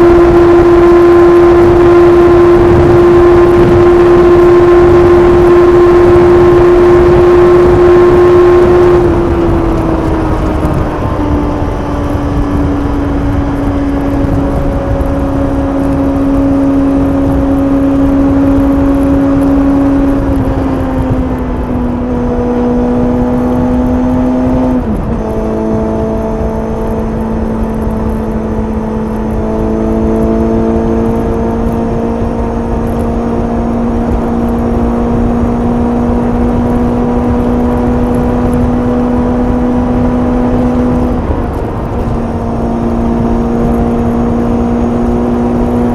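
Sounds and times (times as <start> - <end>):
motorcycle engine cruising: 0.0 - 45.9
wind rush: 0.0 - 45.9.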